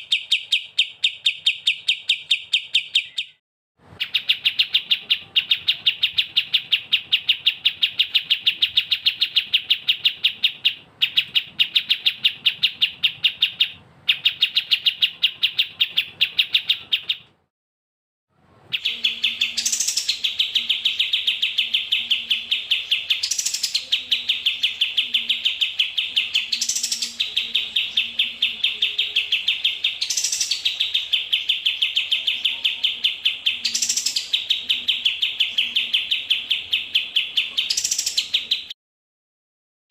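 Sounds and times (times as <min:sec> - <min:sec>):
small songbird chirping: 0:00.0 - 0:03.4, 0:04.0 - 0:17.3, 0:18.6 - 0:38.8.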